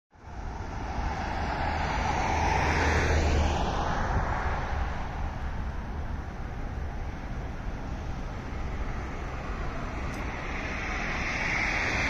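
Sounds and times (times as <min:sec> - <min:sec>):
steady low traffic hum: 0:00.1 - 0:12.0
vehicle passing: 0:00.4 - 0:12.0.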